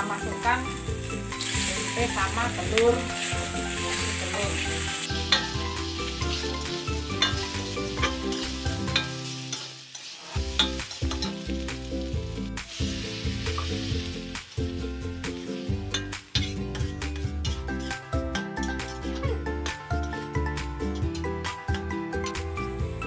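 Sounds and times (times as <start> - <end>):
metal spatula scraping wok: 0.0 - 22.4
food sizzling in oil: 0.0 - 23.0.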